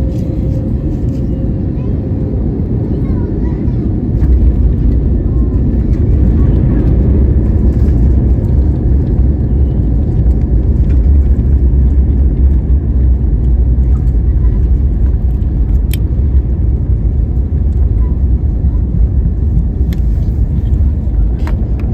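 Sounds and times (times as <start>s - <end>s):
airliner rolling rumble: 0.0s - 21.9s.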